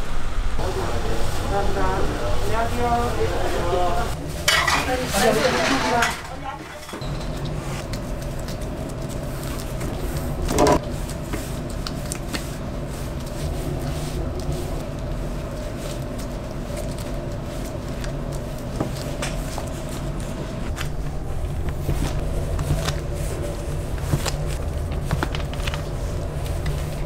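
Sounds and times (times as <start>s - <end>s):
low rumble with faint hum: 0.0s - 27.0s.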